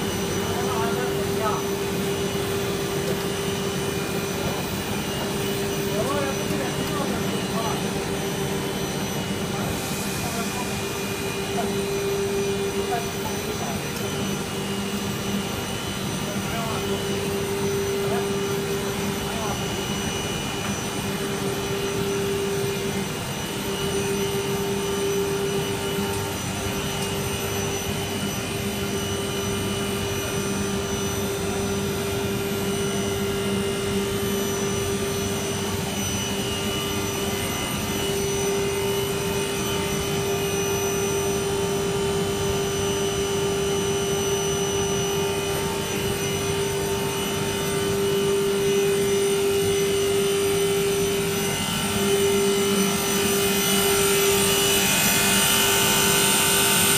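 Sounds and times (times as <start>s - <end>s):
faint machinery whines: 0.0s - 56.9s
industrial machinery humming: 0.0s - 56.9s.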